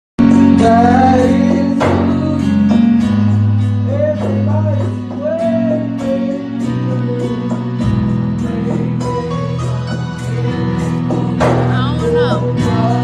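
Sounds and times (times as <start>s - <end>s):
guitar: 0.2s - 13.0s
long held bass notes: 0.2s - 13.0s
worship band music: 0.2s - 13.0s.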